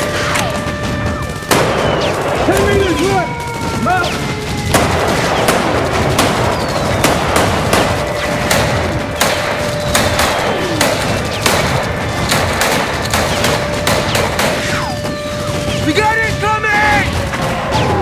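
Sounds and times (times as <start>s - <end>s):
rifle shots: 0.0s - 18.0s.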